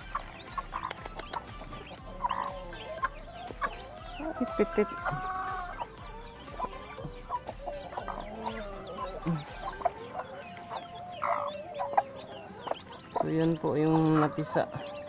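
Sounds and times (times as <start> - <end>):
chicks peeping: 0.0 - 15.0
hen clucking: 0.0 - 15.0
hen protesting call: 0.0 - 15.0.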